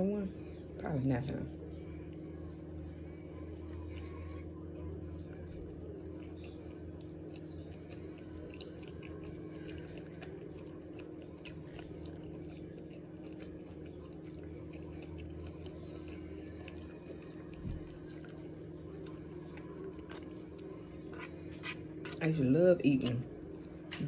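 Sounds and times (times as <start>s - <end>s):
steady low hum: 0.0s - 24.0s
person chewing food: 1.6s - 22.2s, 23.0s - 24.0s.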